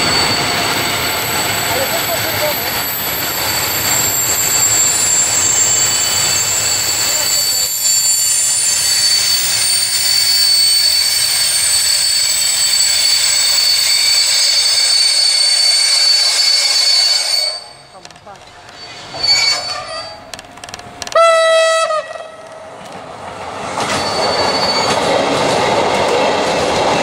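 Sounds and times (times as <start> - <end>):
train wheels squealing: 0.0 - 18.0, 18.6 - 20.3, 23.6 - 25.7
freight train rumbling past: 0.0 - 27.0.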